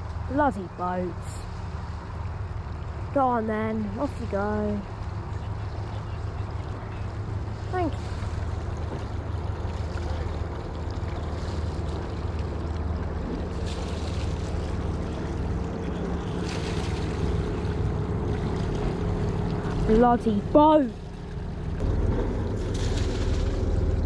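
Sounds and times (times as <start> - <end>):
motorboat engine droning: 0.0 - 24.0.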